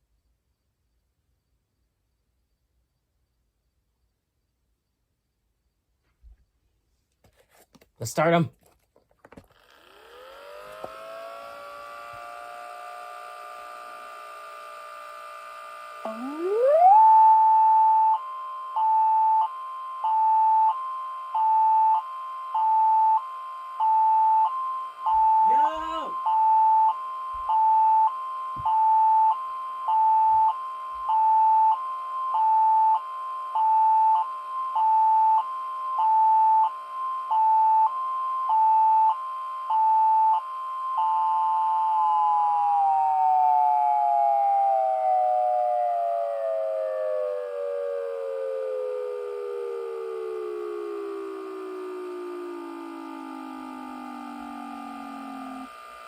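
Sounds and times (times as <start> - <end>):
siren winding down: 9.6 - 56.0
hi-lo siren: 9.8 - 56.0.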